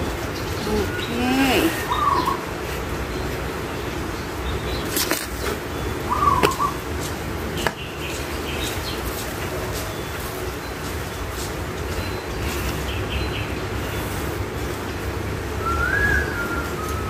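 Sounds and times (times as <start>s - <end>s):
bird chirp: 0.0s - 14.8s, 15.4s - 17.0s.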